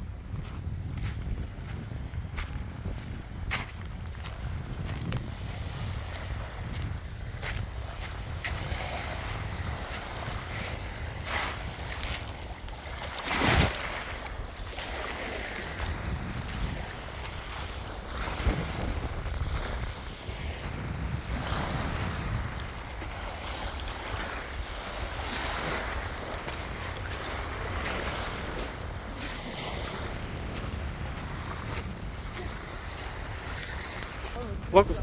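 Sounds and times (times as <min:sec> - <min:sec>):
small waves washing at shore: 0:00.0 - 0:35.0
wind buffeting microphone: 0:00.0 - 0:35.0.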